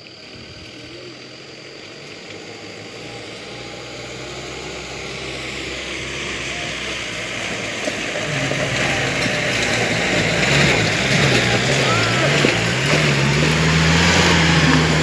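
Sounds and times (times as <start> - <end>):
pickup engine labouring: 0.0 - 15.0.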